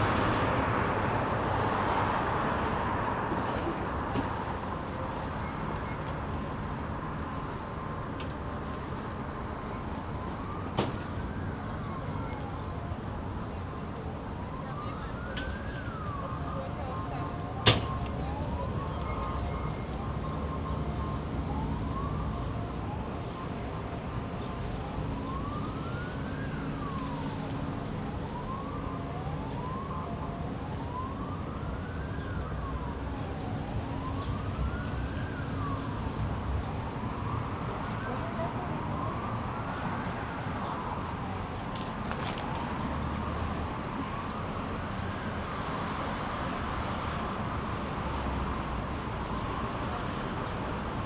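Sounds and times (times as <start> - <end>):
city traffic rumble: 0.0 - 51.0
faint siren wailing: 0.0 - 51.0.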